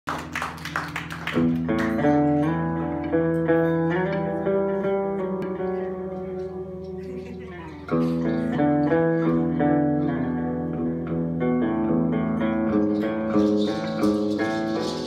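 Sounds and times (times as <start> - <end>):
plucked guitar melody: 1.2 - 15.0.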